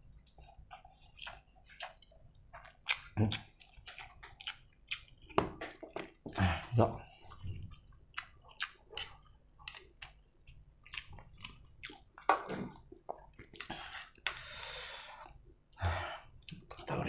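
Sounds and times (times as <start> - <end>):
person chewing noodles: 0.0 - 16.9.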